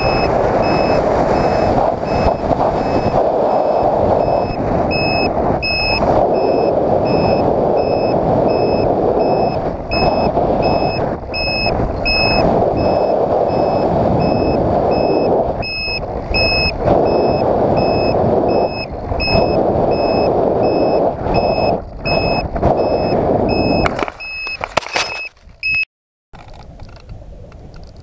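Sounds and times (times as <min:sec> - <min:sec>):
short high-pitched beeps: 0:00.0 - 0:25.9
wind rushing over camera: 0:00.0 - 0:28.0.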